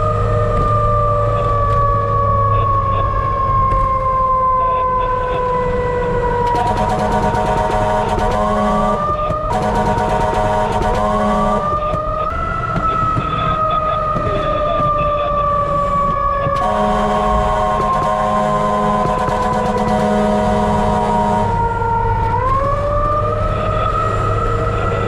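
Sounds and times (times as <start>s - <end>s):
engine and road rumble: 0.0s - 25.0s
fire truck siren wailing: 0.0s - 25.0s
second steady siren tone: 0.0s - 25.0s.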